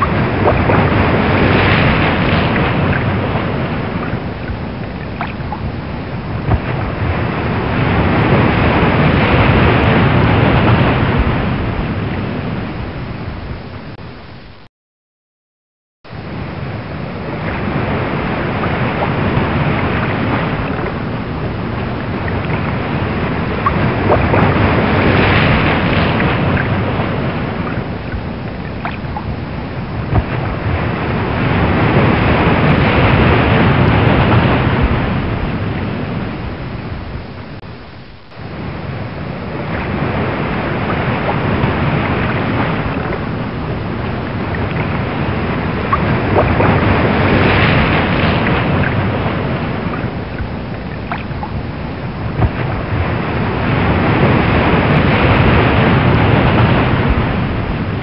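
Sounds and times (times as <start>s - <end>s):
ocean waves washing: 0.0s - 14.6s, 16.1s - 58.0s.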